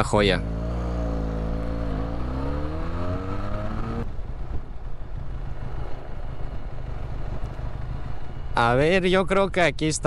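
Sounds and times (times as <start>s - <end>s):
motorcycle engine accelerating: 0.0s - 8.7s.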